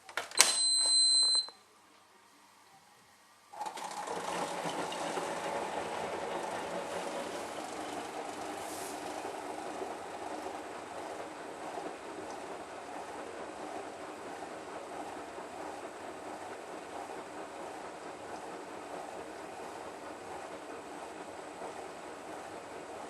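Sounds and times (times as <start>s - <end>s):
washing machine whirring: 0.0s - 23.0s.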